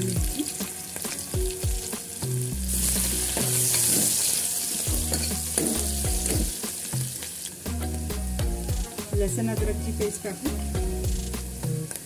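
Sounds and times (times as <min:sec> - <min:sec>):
music with deep bass beat: 0:00.0 - 0:04.1, 0:04.9 - 0:07.1, 0:07.7 - 0:12.0
onions sizzling in hot oil: 0:00.0 - 0:12.0.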